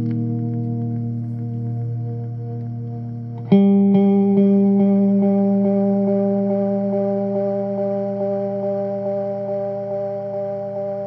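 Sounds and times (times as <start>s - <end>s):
electric guitar chord ringing: 0.0s - 11.0s.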